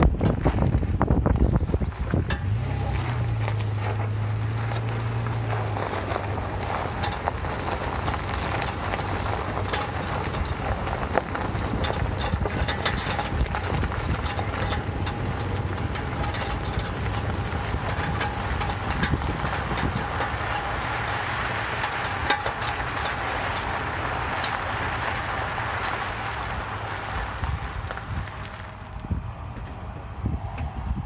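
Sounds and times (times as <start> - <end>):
steady vehicle whine: 0.0 - 31.0
wheel drive noise: 0.0 - 31.0.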